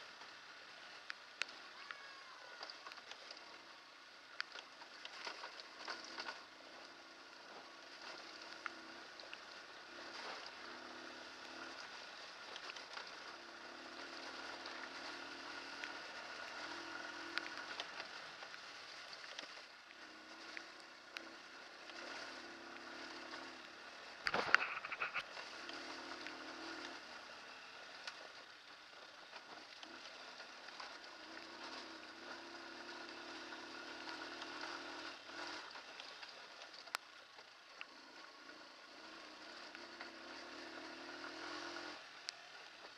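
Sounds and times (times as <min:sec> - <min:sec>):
motorcycle engine revving: 0:04.7 - 0:28.4, 0:29.3 - 0:36.7, 0:37.8 - 0:42.9.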